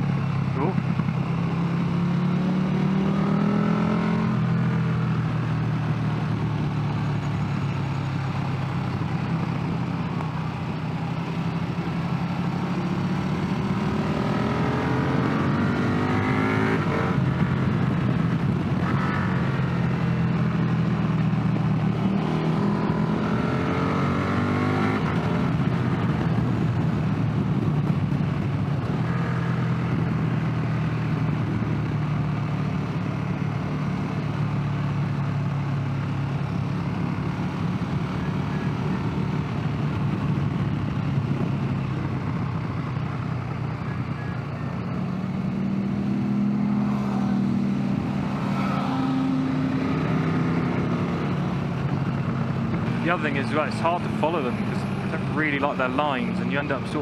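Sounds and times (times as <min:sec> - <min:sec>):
motorcycle engine accelerating: 0:00.0 - 0:57.0
rushing wind and road noise: 0:00.0 - 0:57.0.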